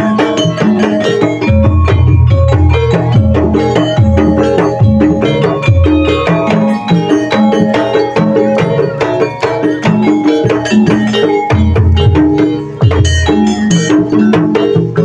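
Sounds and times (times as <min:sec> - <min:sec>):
hand drum strokes: 0:00.0 - 0:15.0
metallic melodic percussion: 0:00.0 - 0:15.0.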